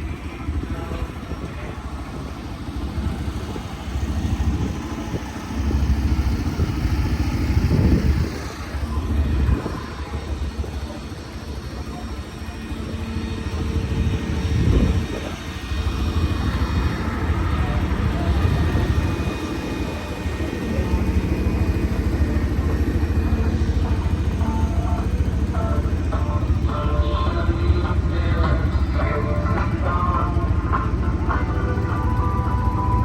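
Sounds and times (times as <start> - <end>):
race car engines rumbling: 0.0 - 33.0.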